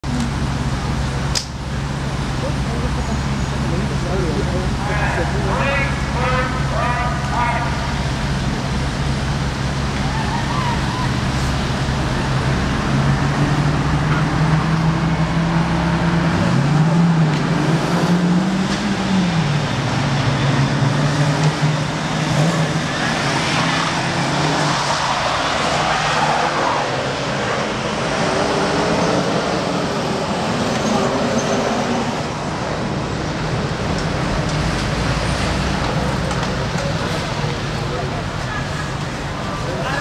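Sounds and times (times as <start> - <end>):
car engines revving: 0.0 - 40.0
tyre noise on wet road: 0.0 - 40.0.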